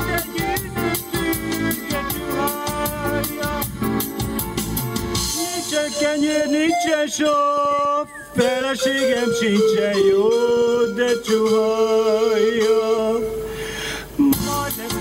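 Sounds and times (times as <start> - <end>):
man singing into a microphone: 0.0 - 4.3, 5.2 - 15.0.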